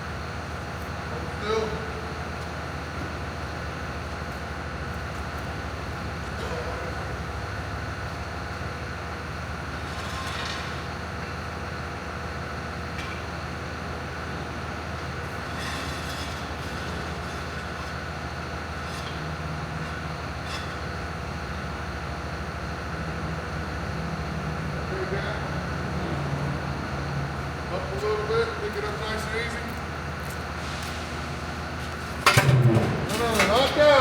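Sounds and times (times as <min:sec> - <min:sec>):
machinery humming: 0:00.0 - 0:34.0.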